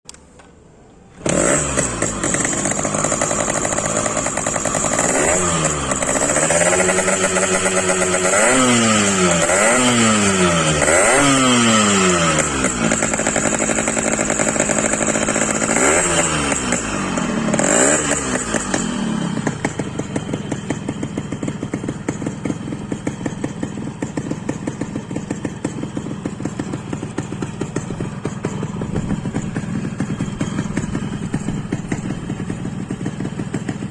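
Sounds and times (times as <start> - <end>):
two-stroke engine revving and idling: 1.1 - 33.9.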